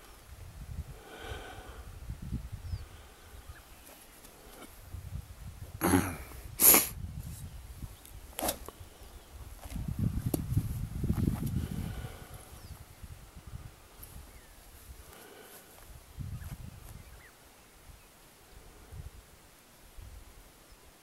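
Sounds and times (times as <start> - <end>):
wind gusts on microphone: 0.0 - 20.4.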